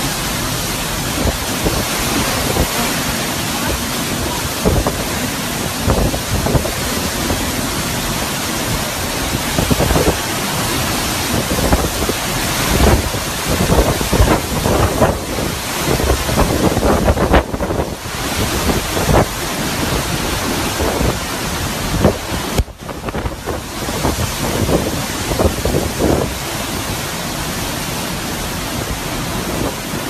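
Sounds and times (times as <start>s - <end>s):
wind buffeting microphone: 0.0s - 27.1s
heavy rain and wind rushing: 0.0s - 30.0s.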